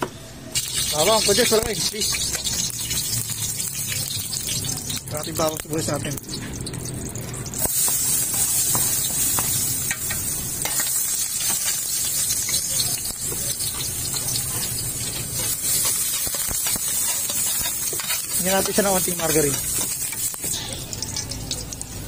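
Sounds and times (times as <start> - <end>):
garlic sizzling in hot oil: 0.5 - 22.0.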